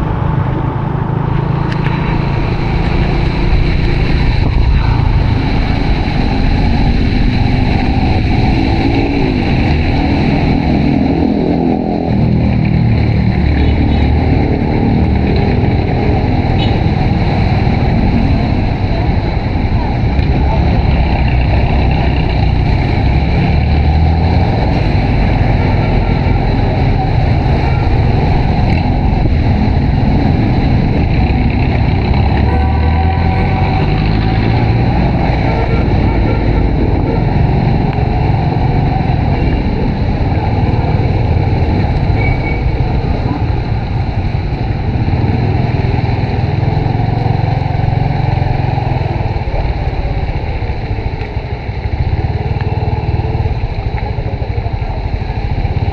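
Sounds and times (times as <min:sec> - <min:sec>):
motorcycle engine running: 0:00.0 - 0:55.9
wind and road noise: 0:00.0 - 0:55.9.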